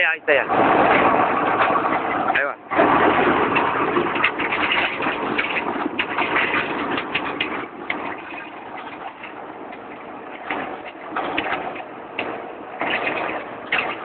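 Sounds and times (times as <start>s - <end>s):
drilling rig clattering: 0.0s - 14.0s.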